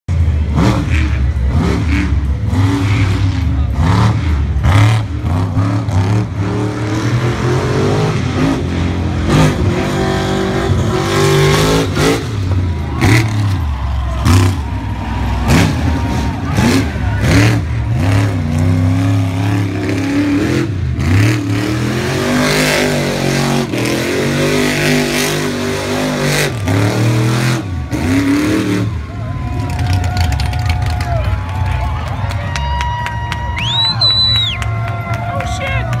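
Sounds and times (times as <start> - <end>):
truck engine revving: 0.1 - 36.0.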